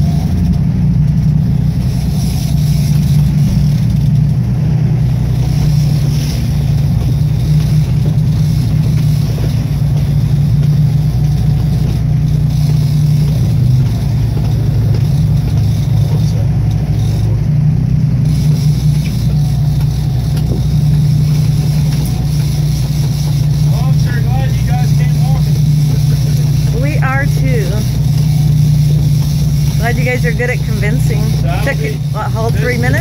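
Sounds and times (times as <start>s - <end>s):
boat engines droning: 0.0s - 33.0s
wind and water hiss: 0.0s - 33.0s.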